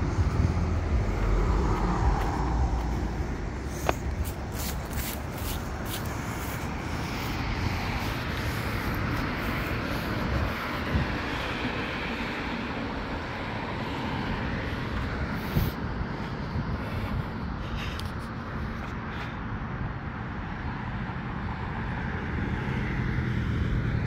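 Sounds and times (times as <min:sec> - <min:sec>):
gusting wind on microphone: 0:00.0 - 0:22.4
road traffic hissing: 0:00.0 - 0:24.0.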